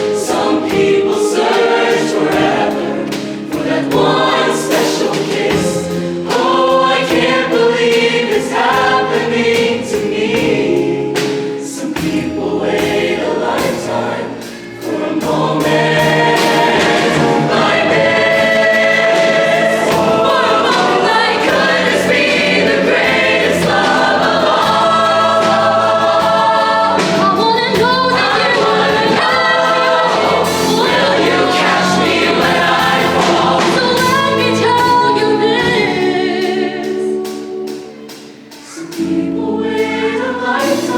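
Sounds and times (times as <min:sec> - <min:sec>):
instrumental backing music: 0:00.0 - 0:40.9
show choir singing in harmony: 0:00.0 - 0:40.9.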